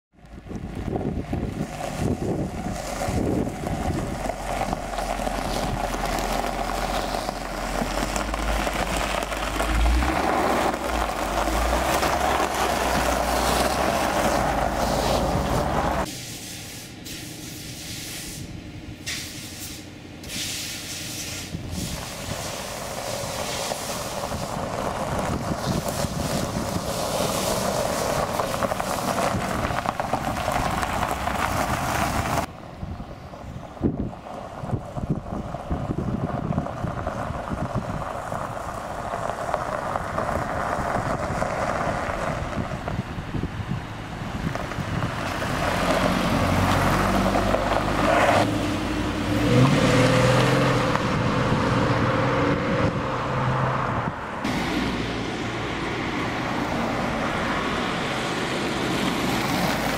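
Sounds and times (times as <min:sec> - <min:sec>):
car engine rumbling: 0:00.1 - 0:59.9
car moving across gravel: 0:00.2 - 0:55.4, 0:56.0 - 0:59.9.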